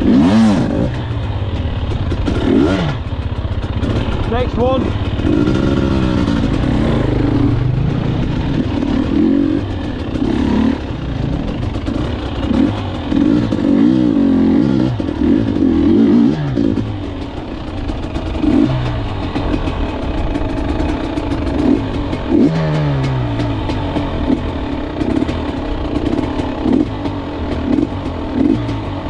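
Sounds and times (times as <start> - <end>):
motorbike clatter: 0.0 - 29.0
two-stroke motorbike engine revving: 0.0 - 29.0.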